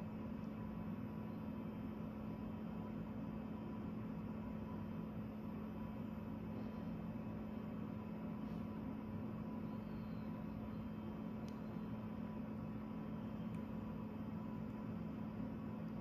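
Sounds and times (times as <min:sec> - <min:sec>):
steady low hum with hiss: 0:00.0 - 0:16.0.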